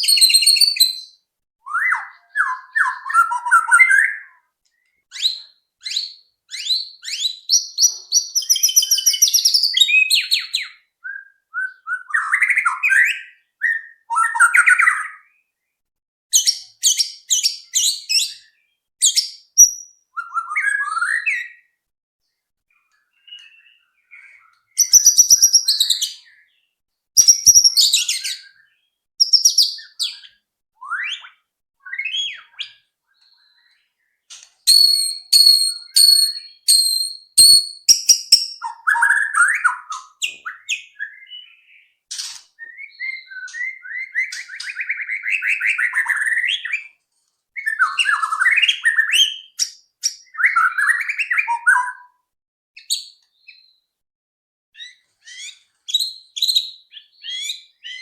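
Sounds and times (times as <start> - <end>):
songbird whistling song: 0.0 - 15.7, 16.3 - 21.8, 22.7 - 47.0, 47.6 - 53.9, 54.8 - 58.0.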